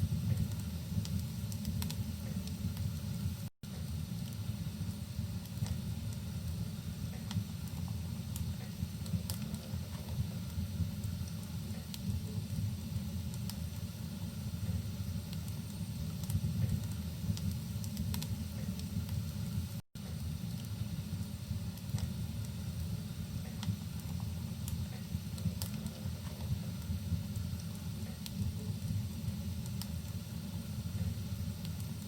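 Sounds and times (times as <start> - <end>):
fireplace fire crackling: 0.0 - 32.0.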